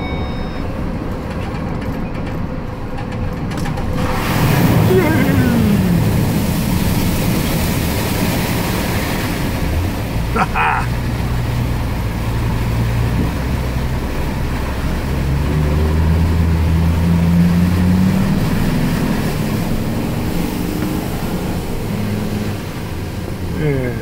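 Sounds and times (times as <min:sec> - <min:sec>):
truck engine pulling: 0:00.0 - 0:24.0
water washing: 0:03.7 - 0:24.0.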